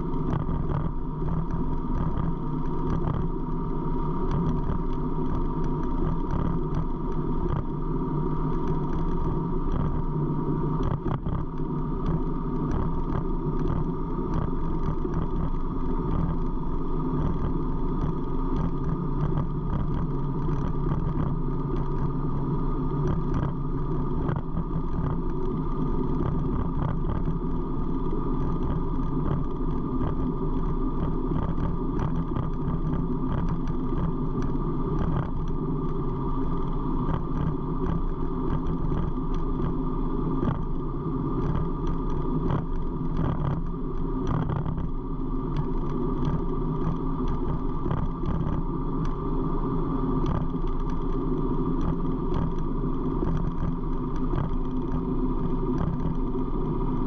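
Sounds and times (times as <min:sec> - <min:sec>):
road and wind noise: 0:00.0 - 0:57.0.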